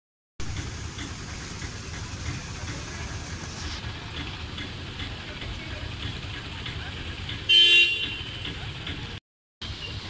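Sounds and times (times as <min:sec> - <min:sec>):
idling vehicles and traffic rumble: 0:00.4 - 0:10.0.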